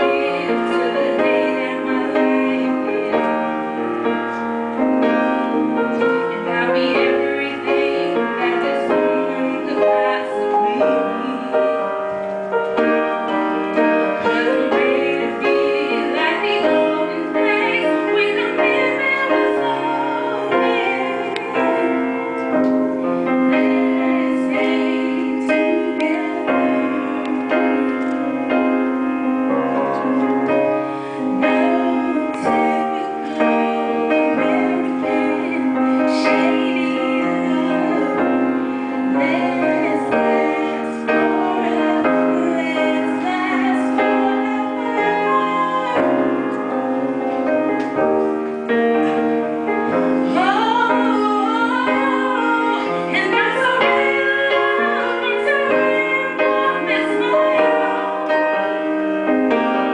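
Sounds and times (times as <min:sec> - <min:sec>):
woman singing: 0:00.0 - 0:04.3, 0:04.9 - 0:12.2, 0:12.8 - 0:28.7, 0:29.5 - 0:47.3, 0:49.0 - 0:58.7
piano accompaniment: 0:00.0 - 0:59.9.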